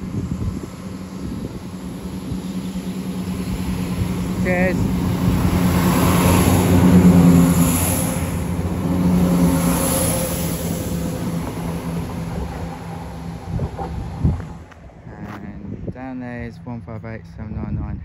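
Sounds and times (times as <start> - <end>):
train engines droning: 0.0 - 17.5.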